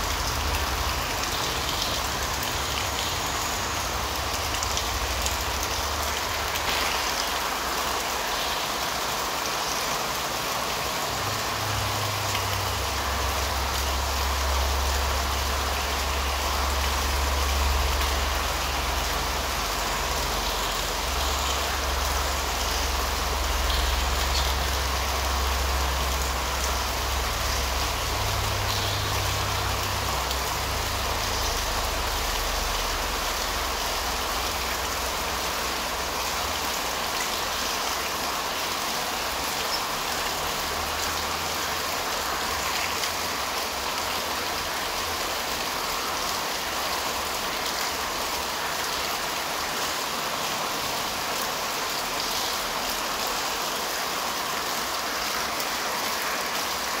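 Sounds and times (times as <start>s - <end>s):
heavy rain on leaves: 0.0s - 57.0s.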